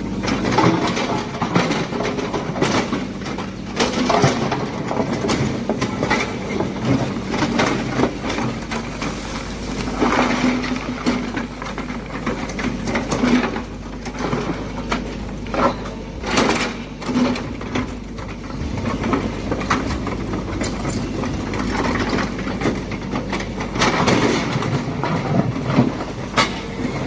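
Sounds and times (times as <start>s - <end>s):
excavator working: 0.0s - 27.0s.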